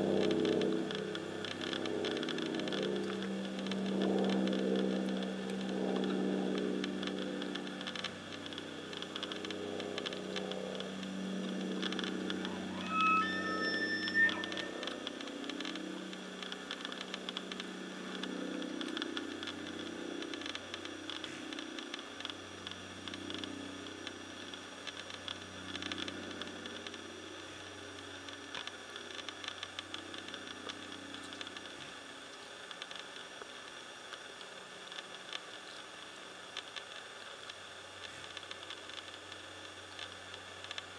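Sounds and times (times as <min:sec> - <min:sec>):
faint clicks and crackle: 0:00.0 - 0:40.9
faint low engine hum: 0:00.0 - 0:40.9.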